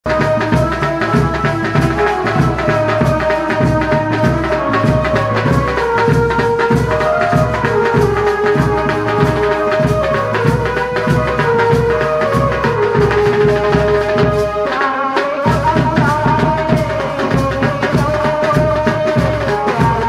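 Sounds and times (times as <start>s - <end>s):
bass-heavy drum beat: 0.0s - 14.6s, 15.5s - 20.0s
held melody: 0.1s - 20.0s.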